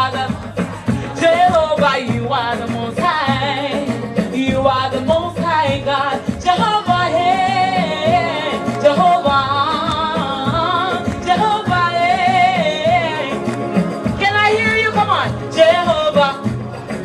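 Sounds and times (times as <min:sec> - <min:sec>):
woman singing: 0:00.0 - 0:16.7
band playing gospel music: 0:00.0 - 0:17.0.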